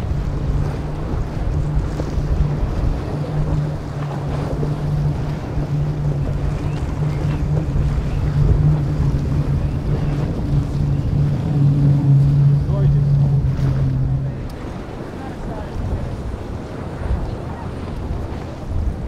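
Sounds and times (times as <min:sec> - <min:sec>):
boat engines droning: 0:00.0 - 0:19.0
rush of spray and waves: 0:00.0 - 0:19.0
wind buffeting microphone: 0:00.0 - 0:19.0.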